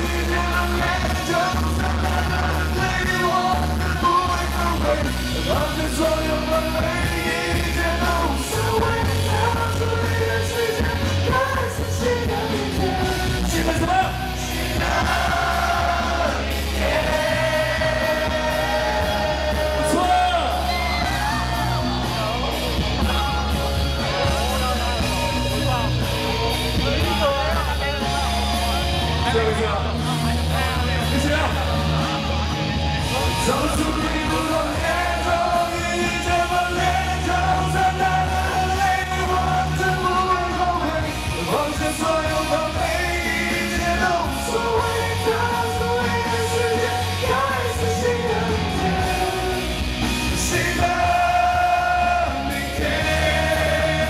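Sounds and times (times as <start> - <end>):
crowd yelling and cheering: 0.0 - 54.0
live rock band playing: 0.0 - 54.0.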